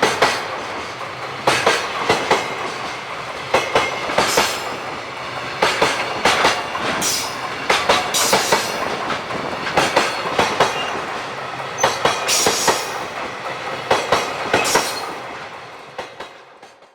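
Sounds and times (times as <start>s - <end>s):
train wheels clattering over rail joints: 0.0s - 16.9s.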